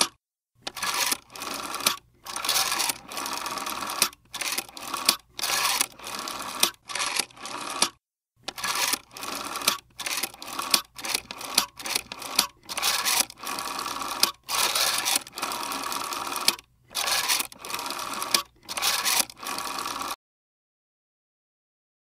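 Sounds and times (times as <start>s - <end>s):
rotary dial ratcheting and whirring: 0.6s - 20.2s.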